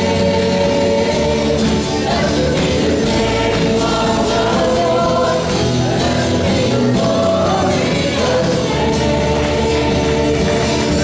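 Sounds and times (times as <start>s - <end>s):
group singing worship song: 0.0s - 11.0s
instrumental accompaniment: 0.0s - 11.0s.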